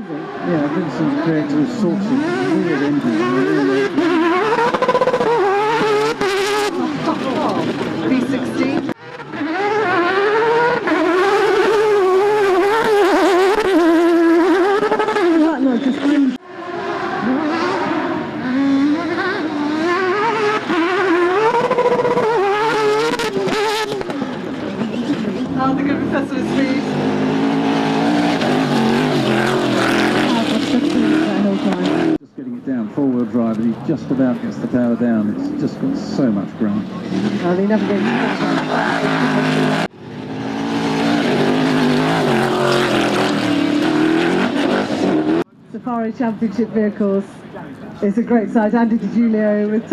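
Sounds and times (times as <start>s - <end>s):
car engine revving: 0.0s - 45.5s.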